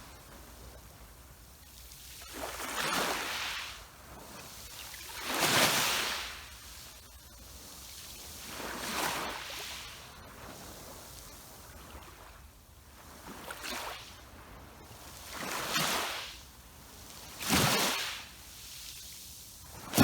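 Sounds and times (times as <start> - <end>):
sea waves washing ashore: 0.0 - 20.0.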